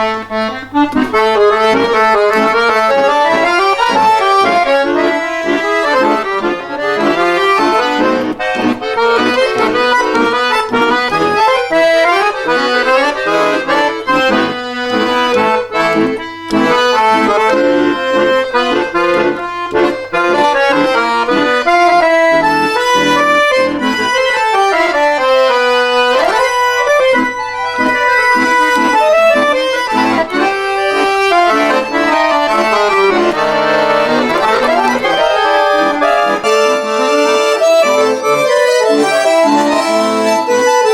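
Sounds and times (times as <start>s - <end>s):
button accordion playing folk tune: 0.0s - 40.9s.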